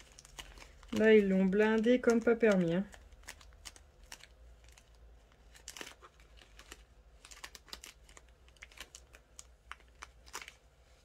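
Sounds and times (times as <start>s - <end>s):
plastic zip bag crinkling: 0.0s - 11.0s.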